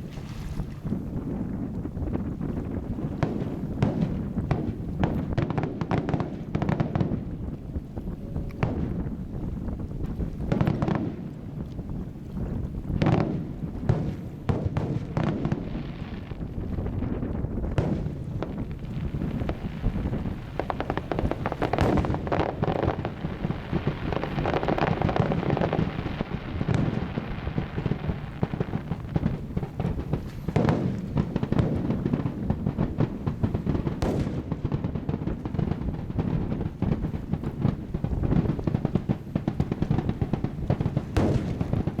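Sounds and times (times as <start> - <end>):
fireworks crackling: 0.8 - 42.0
fireworks bangs: 0.9 - 42.0.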